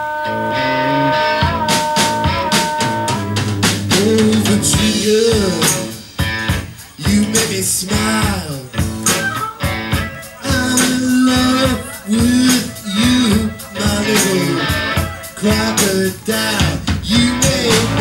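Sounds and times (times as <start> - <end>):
blues guitar strumming: 0.0 - 18.0.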